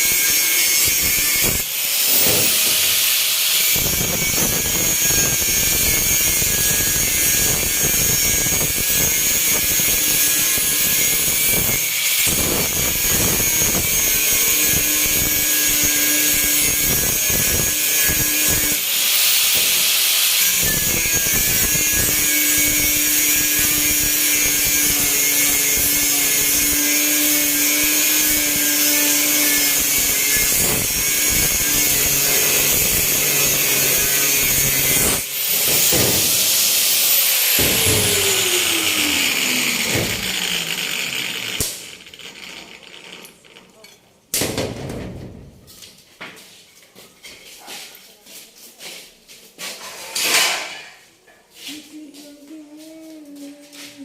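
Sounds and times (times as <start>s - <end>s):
power tool on car body metal: 0.0s - 43.3s.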